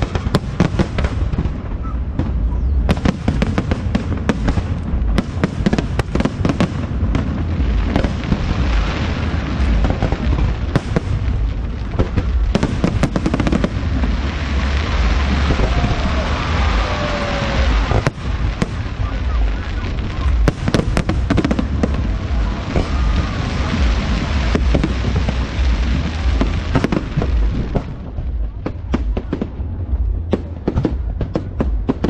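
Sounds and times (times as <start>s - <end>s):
fireworks bangs and crackles: 0.0s - 32.0s
low rumble: 0.0s - 32.0s.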